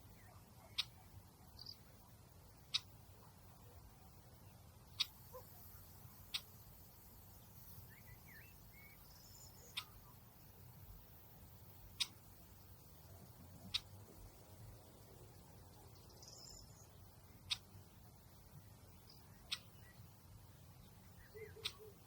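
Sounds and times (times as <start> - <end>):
faint gliding calls: 0.0 - 18.5, 20.8 - 22.0
faint low rumble: 0.0 - 22.0.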